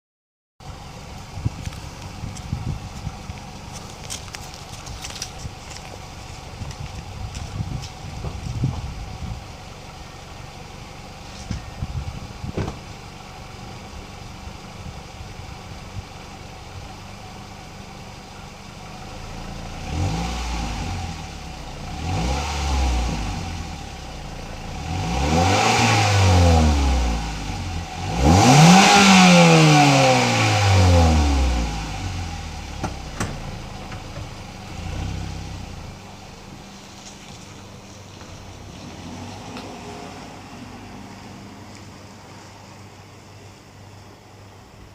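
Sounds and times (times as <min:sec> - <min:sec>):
car engine idling and revving: 0:00.6 - 0:44.9.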